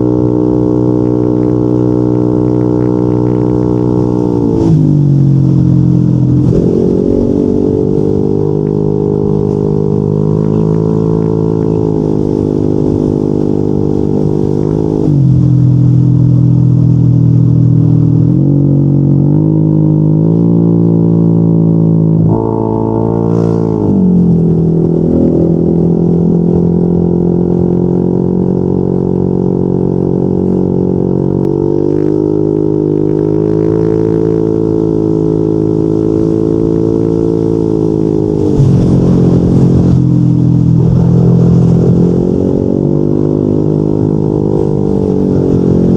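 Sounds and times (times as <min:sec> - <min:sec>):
scooter engine droning: 0:00.0 - 0:45.9.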